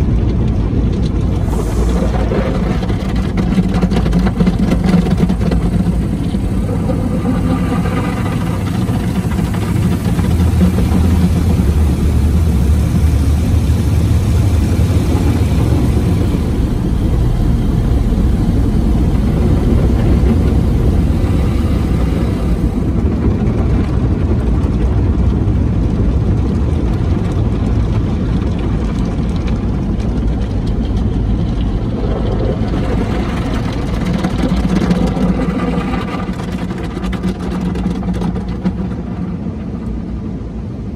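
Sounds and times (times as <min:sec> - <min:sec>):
loud steady rumble: 0:00.0 - 0:40.9.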